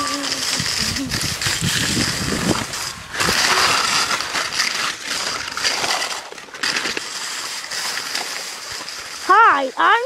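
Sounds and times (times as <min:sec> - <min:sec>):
skis scraping over snow: 0:00.0 - 0:10.0.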